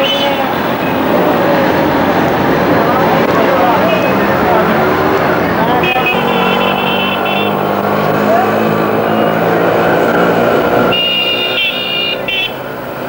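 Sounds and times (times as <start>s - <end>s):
traffic engines running: 0.0s - 13.0s.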